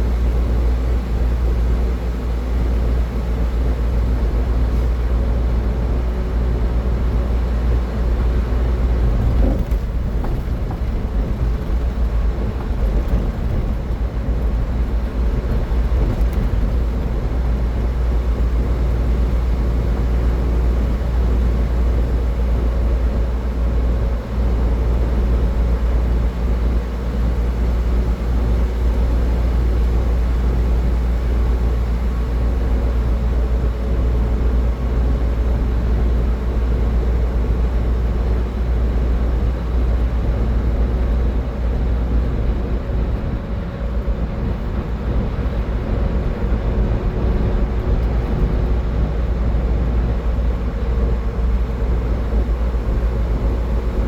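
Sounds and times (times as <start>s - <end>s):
car driving at highway speed: 0.0s - 54.0s.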